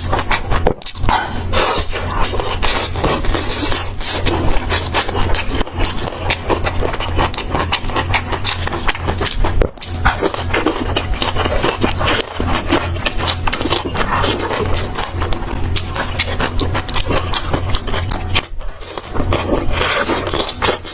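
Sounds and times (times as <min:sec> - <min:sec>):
crunching and chewing snacks: 0:00.0 - 0:20.9
steady low hum: 0:00.0 - 0:20.9.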